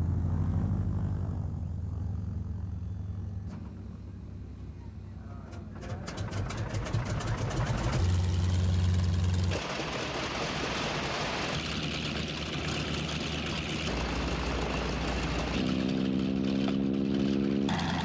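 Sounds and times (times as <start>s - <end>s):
aircraft piston engine droning: 0.0s - 18.0s.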